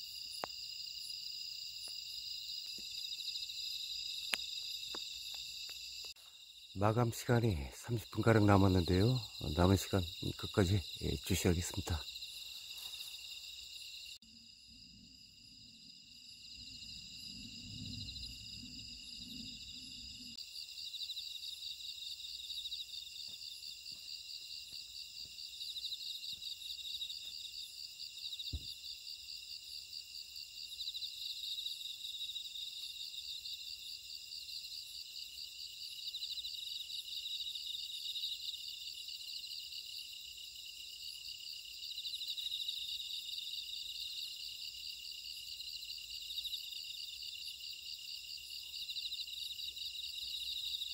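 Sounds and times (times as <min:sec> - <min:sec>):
crickets and insects trilling: 0:00.0 - 0:50.9.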